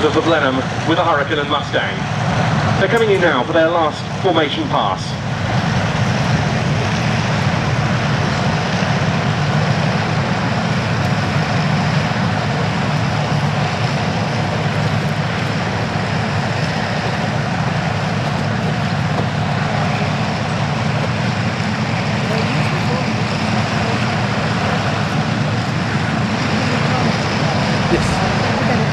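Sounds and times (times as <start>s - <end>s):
piston aircraft engines droning: 0.0s - 28.9s.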